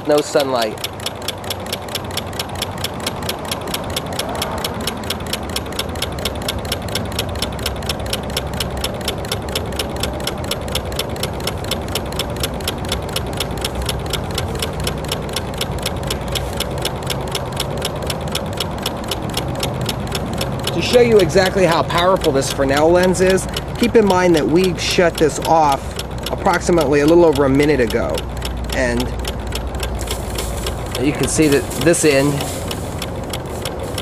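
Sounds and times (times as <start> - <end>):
stirling engine clicking: 0.0 - 34.0.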